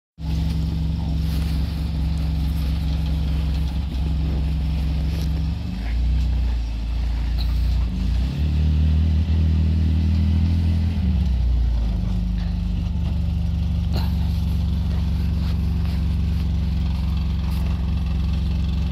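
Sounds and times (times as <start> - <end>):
utility vehicle engine humming: 0.2 - 18.9.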